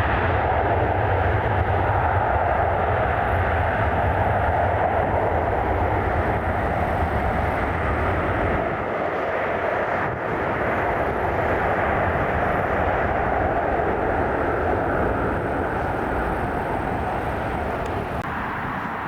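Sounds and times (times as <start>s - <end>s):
jet engine rush: 0.0s - 19.0s.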